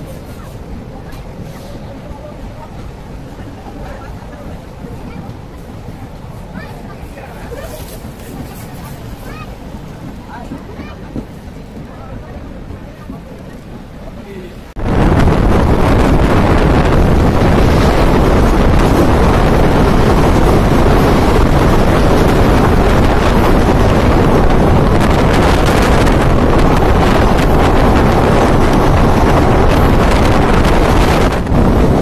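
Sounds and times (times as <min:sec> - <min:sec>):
moving train noise: 0:00.0 - 0:32.0
wind buffeting microphone: 0:00.0 - 0:32.0.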